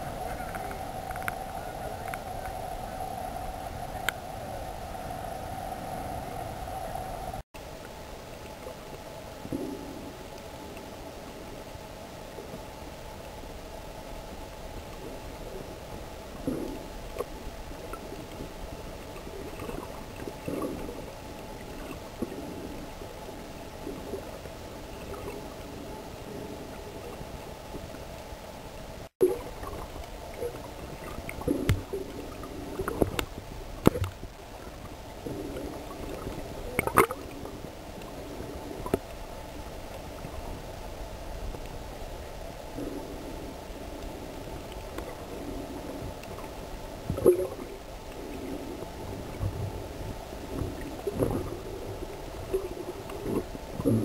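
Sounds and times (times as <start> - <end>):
steady hiss: 0.0 - 54.0
water gurgling and sloshing: 0.0 - 54.0.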